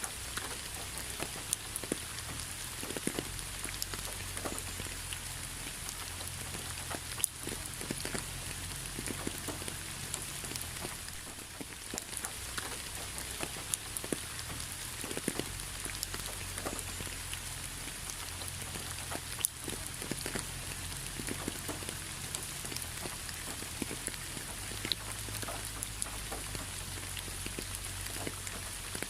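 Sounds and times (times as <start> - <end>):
rain hiss: 0.0 - 29.0
raindrops pattering on hard surface: 0.0 - 29.0.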